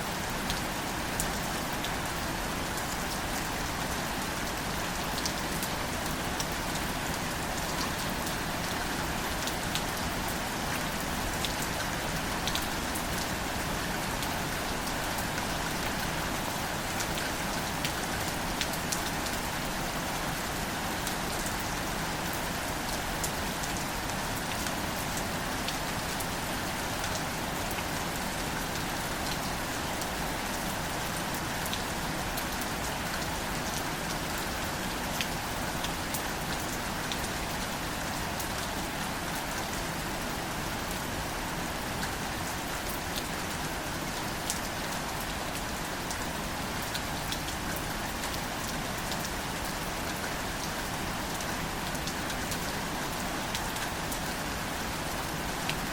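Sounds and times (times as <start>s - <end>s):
rain on plants and ground: 0.0s - 55.9s.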